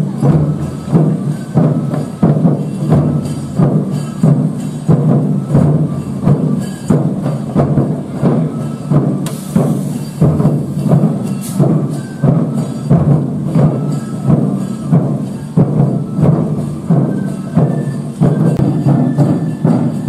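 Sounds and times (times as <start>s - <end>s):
music with percussive beat: 0.0s - 20.0s.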